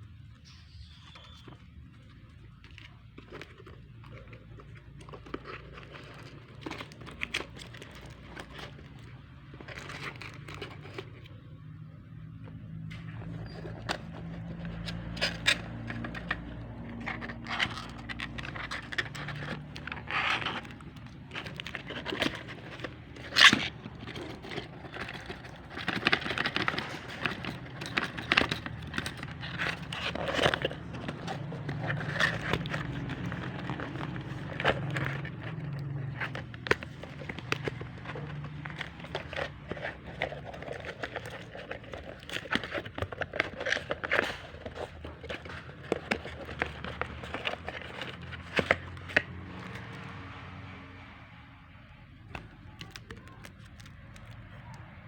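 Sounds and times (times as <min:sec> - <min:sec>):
packaging scraping and crinkling: 0:00.1 - 0:50.5, 0:52.2 - 0:55.0.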